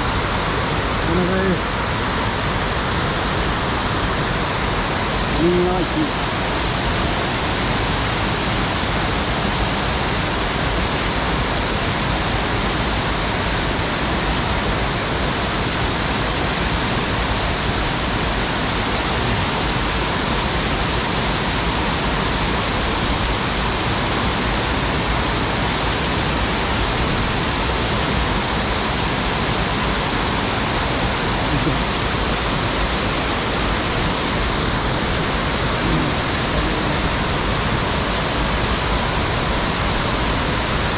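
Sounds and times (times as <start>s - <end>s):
stream rushing over riffles: 0.0s - 40.9s.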